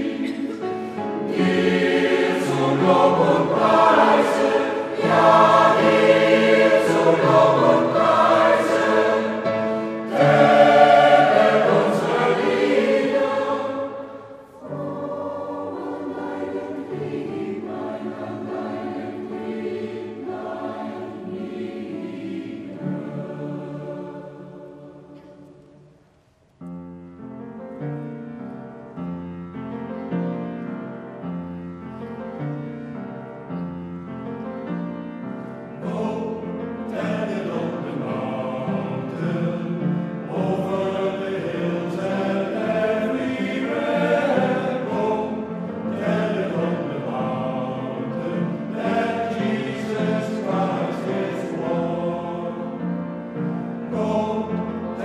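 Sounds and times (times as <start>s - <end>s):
piano accompaniment: 0.0s - 25.3s, 26.6s - 55.0s
choir singing: 0.0s - 26.0s, 35.5s - 55.0s.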